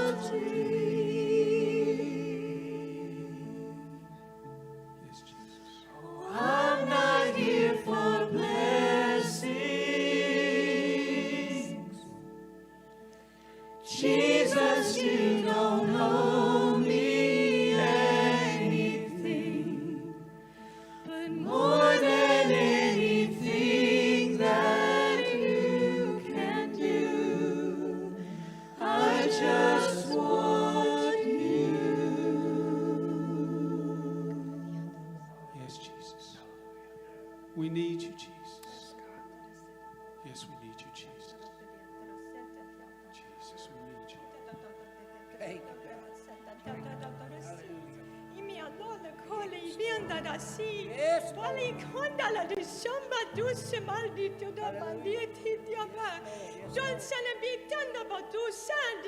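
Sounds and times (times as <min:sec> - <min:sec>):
voices singing a slow song: 0:00.0 - 0:59.0.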